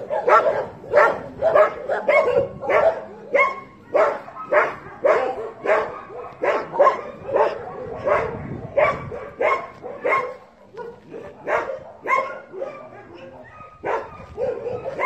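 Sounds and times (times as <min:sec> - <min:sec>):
dog barking: 0:00.0 - 0:15.0.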